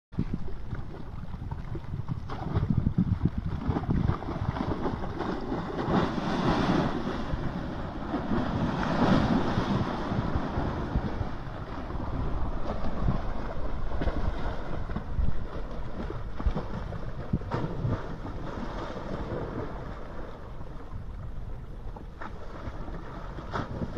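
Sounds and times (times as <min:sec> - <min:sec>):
wind buffeting microphone: 0:00.1 - 0:23.9.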